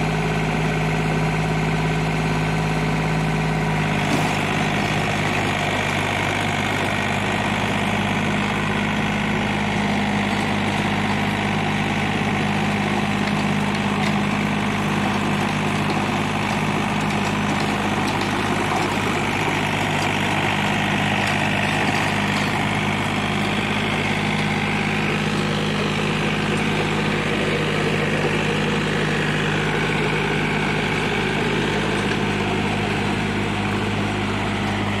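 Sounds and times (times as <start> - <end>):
rotavator churning soil: 0.0 - 35.0
tractor diesel engine under load: 0.0 - 35.0.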